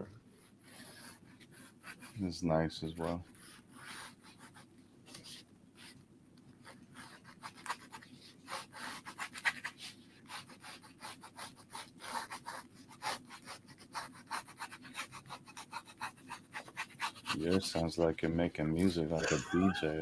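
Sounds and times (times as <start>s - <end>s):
pens scratching on paper: 0.6s - 19.9s.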